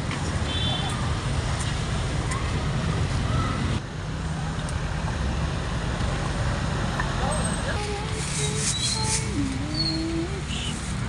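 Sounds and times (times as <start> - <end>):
low rumble of street noise: 0.0 - 11.0.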